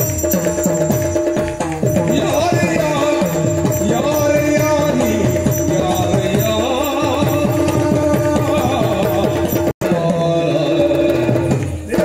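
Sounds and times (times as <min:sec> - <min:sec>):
jingling small cymbals or bells: 0:00.0 - 0:09.7
fast drumming: 0:00.0 - 0:12.0.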